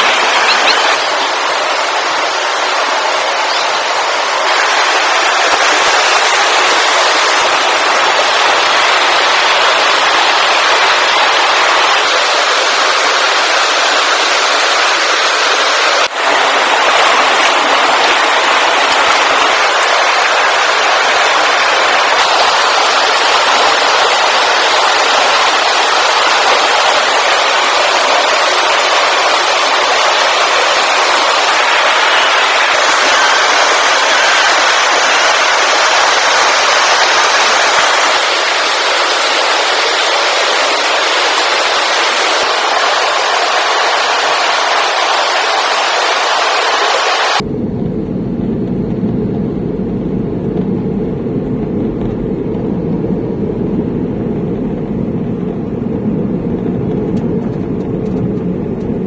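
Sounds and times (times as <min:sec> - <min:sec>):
loud rushing noise: 0:00.0 - 0:58.8.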